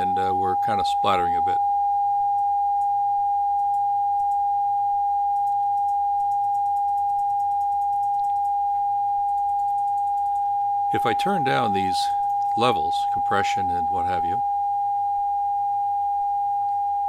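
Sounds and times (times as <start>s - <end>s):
steady sine-wave test tone: 0.0s - 17.0s.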